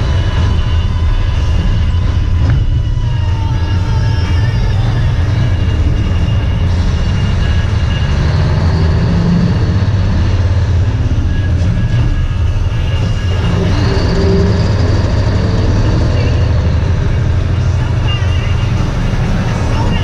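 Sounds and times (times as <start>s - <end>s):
drive rumble: 0.0s - 20.0s
truck diesel engine running: 0.0s - 20.0s.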